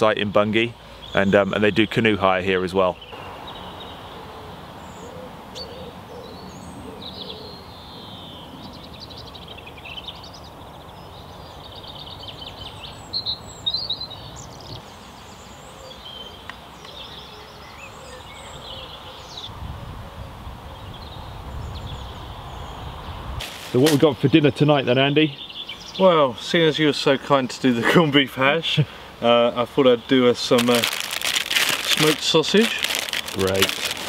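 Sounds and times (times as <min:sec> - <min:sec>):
songbirds singing and chirping: 0:00.0 - 0:34.0.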